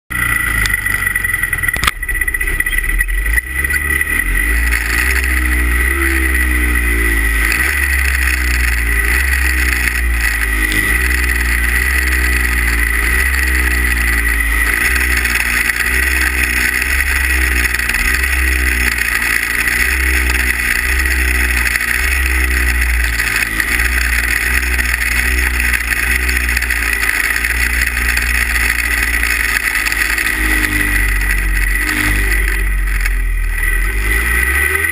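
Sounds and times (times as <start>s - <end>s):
snowmobile engines revving: 0.1s - 34.9s.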